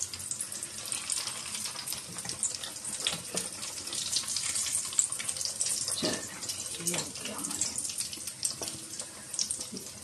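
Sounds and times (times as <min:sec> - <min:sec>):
cutlets sizzling in frying pan: 0:00.0 - 0:10.0.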